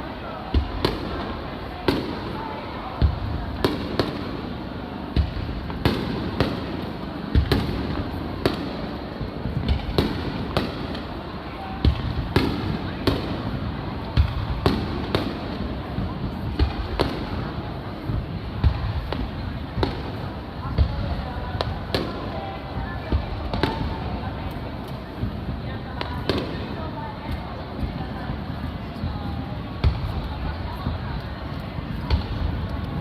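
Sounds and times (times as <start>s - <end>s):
crowd noise: 0.0s - 33.0s.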